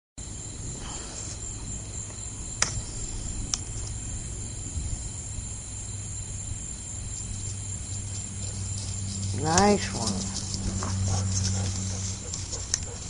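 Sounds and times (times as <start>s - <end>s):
crickets chirring: 0.2s - 13.0s
steady low rumble: 0.2s - 13.0s.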